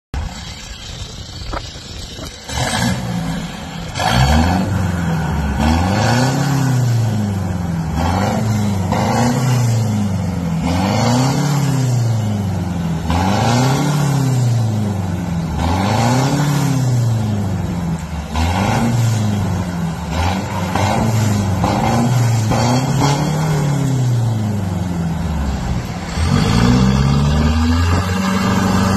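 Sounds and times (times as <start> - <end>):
diesel engine revving: 0.2 - 28.9.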